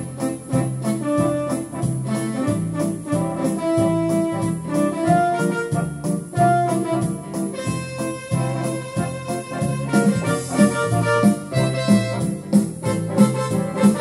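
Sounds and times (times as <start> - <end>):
electronic keyboard playing: 0.0 - 14.0.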